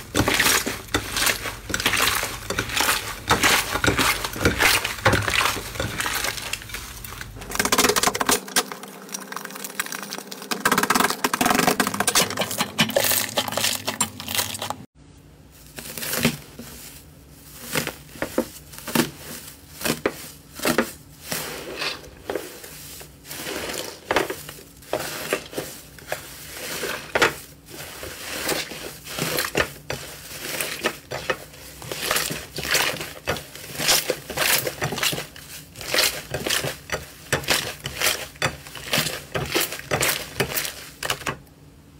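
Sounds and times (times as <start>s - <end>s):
slime squishing: 0.0s - 14.9s, 15.6s - 41.4s.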